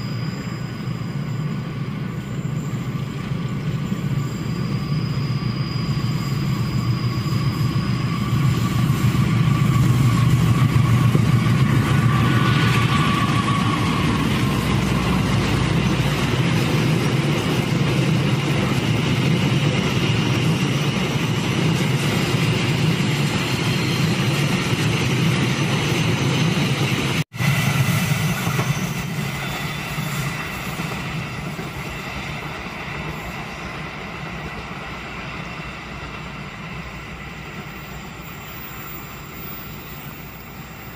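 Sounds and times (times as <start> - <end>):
train wheels rumbling on rails: 0.0 - 40.9
locomotive engine: 0.8 - 40.8.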